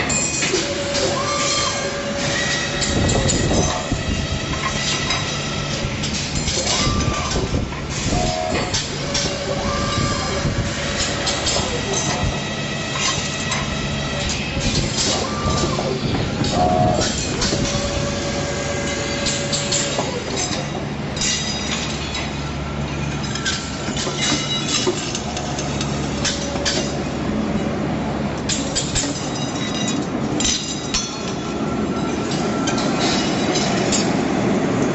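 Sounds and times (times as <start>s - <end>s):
welding machinery running: 0.0s - 34.9s.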